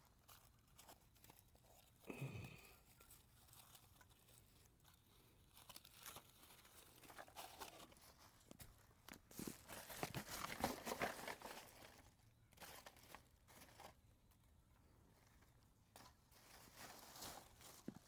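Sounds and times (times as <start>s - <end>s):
rustling and crunching of dry material: 0.0s - 18.0s.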